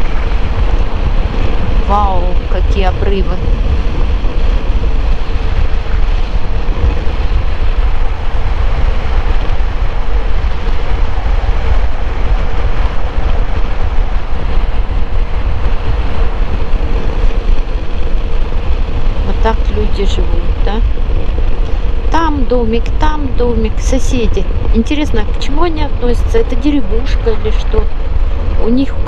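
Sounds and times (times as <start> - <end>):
road noise: 0.0 - 29.0
wind buffeting microphone: 0.0 - 29.0.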